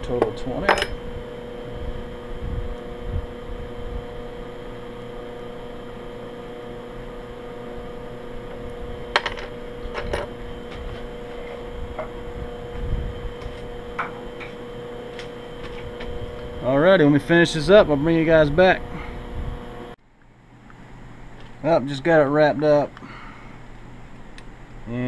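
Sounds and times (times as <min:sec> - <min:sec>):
shop machinery hum: 0:00.0 - 0:25.0.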